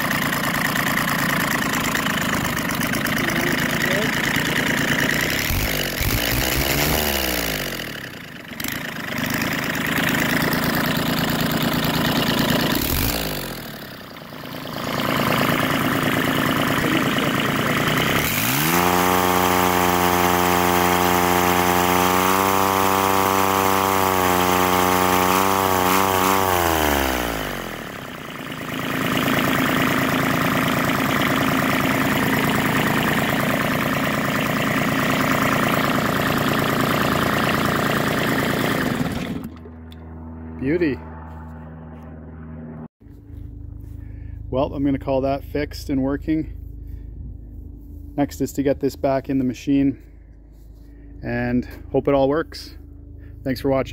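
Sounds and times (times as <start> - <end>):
diesel engine revving and idling: 0.0 - 53.9.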